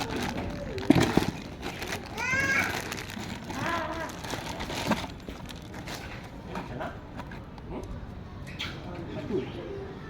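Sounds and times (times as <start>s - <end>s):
faint background noise: 0.0s - 10.0s.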